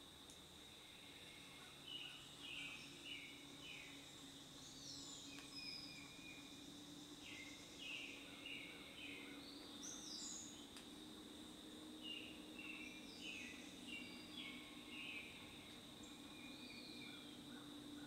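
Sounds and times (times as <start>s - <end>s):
faint steady hum: 0.0s - 18.0s
songbirds chirping: 0.2s - 18.0s.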